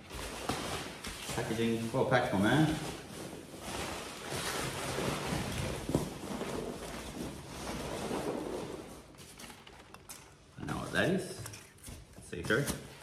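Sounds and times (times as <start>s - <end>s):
packing paper rustling: 0.0s - 12.1s.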